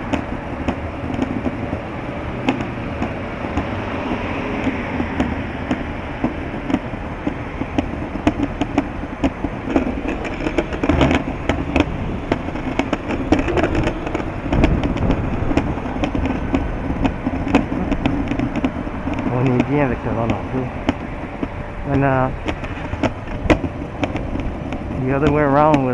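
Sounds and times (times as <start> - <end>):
sharp clicks and knocks: 0.0 - 25.9
wind buffeting microphone: 0.0 - 25.9.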